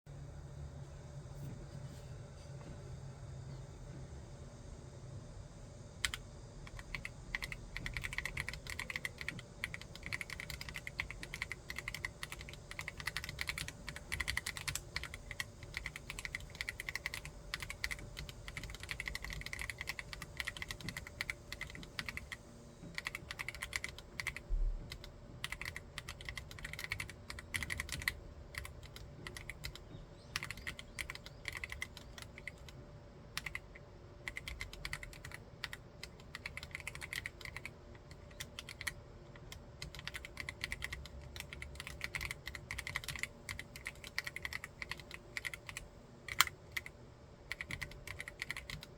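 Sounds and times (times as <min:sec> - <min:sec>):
fast typing on mechanical keyboard: 0:06.0 - 0:32.8, 0:33.4 - 0:48.9.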